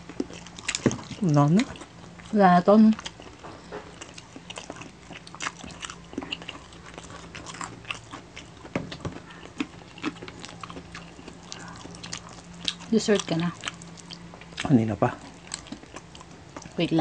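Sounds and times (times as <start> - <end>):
low steady hum: 0.0 - 17.0
people chewing crispy meat: 0.0 - 17.0.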